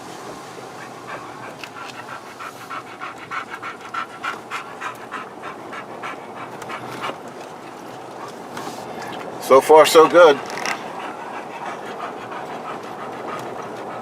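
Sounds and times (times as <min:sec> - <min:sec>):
vehicle cabin road noise: 0:00.0 - 0:14.0
dog panting: 0:00.6 - 0:14.0.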